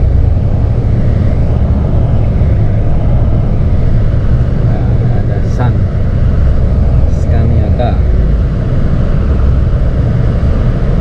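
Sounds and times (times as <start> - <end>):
coach engine rumble: 0.0 - 11.0.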